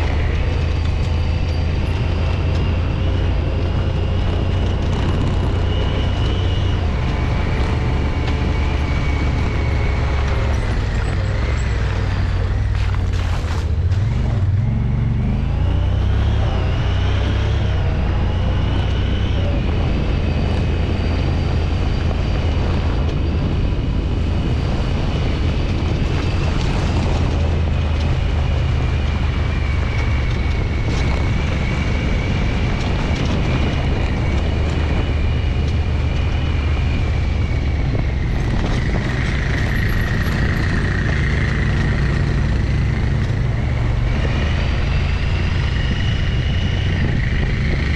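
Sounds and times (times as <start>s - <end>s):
vehicle engine rumble with whine: 0.0s - 47.9s.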